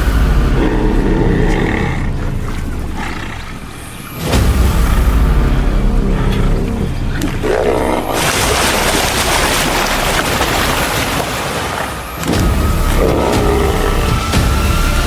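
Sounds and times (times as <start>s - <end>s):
big cat growling: 0.0s - 4.4s, 5.4s - 10.8s, 12.2s - 14.6s
loud rushing splashing noise: 0.0s - 15.0s.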